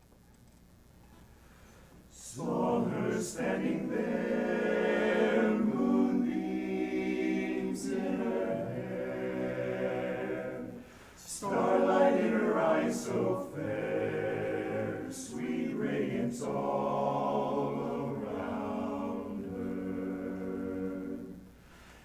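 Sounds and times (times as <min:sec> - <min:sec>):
men's a cappella chorus singing: 0:02.1 - 0:21.5.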